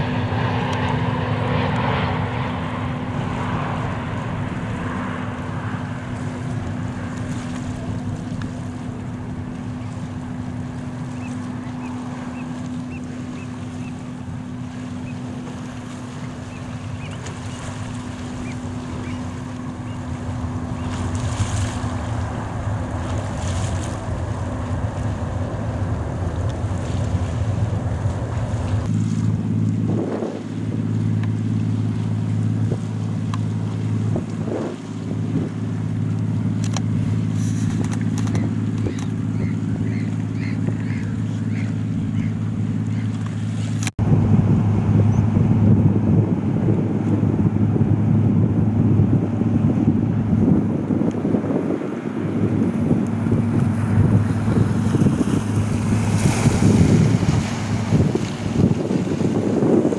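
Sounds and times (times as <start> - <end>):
jet engines rumbling: 0.0 - 59.9
wind noise on microphone: 0.0 - 59.9.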